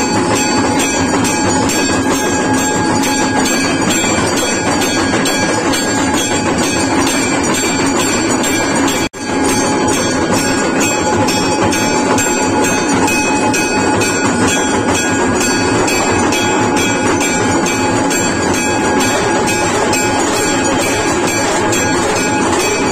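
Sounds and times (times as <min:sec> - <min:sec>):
large brass bell rung by hand: 0:00.0 - 0:22.9
temple bells clanging: 0:00.0 - 0:22.9.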